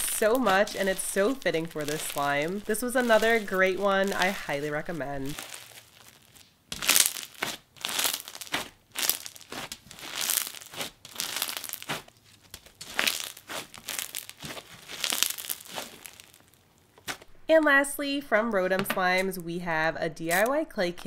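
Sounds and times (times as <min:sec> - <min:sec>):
crunchy slime crackling: 0:00.0 - 0:17.3.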